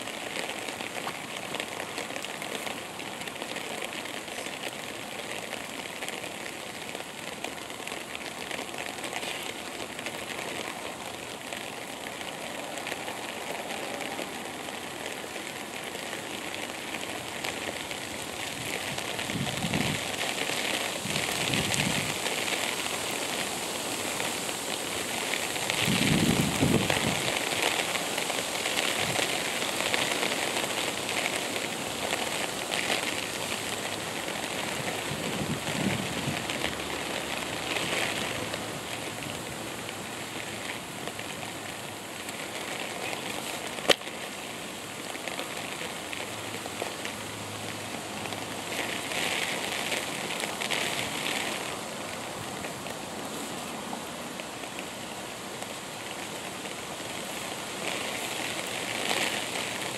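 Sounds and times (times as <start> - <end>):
outdoor rustling hiss: 0.0 - 59.9.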